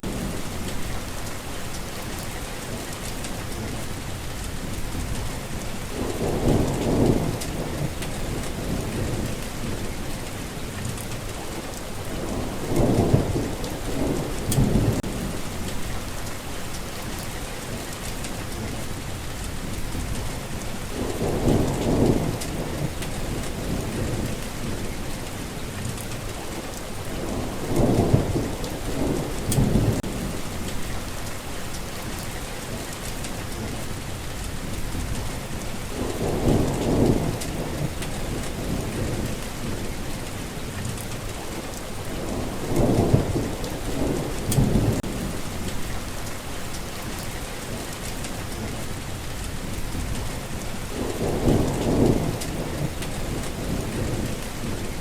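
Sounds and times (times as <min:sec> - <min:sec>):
low thunder rumbles: 0:00.0 - 0:55.0
rain falling: 0:00.0 - 0:55.0.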